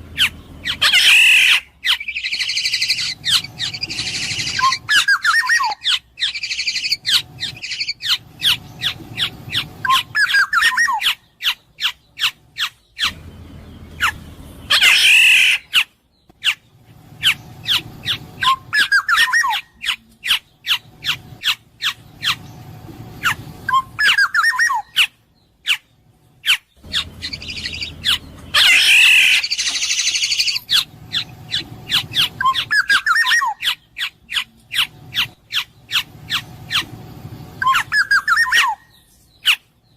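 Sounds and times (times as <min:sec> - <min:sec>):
harsh bird squawk: 0:00.0 - 0:22.6, 0:23.2 - 0:37.0, 0:37.6 - 0:39.7
oriole calling: 0:00.0 - 0:39.7.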